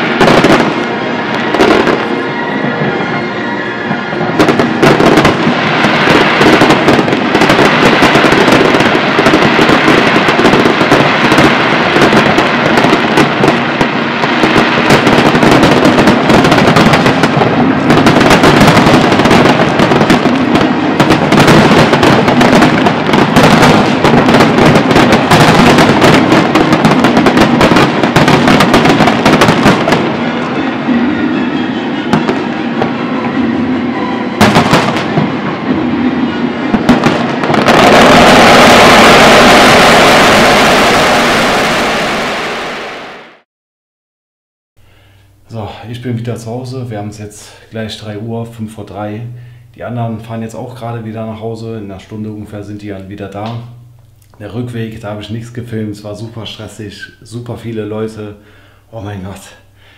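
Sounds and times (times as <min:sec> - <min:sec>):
fireworks bursting: 0:00.0 - 0:43.4, 0:45.6 - 0:58.2.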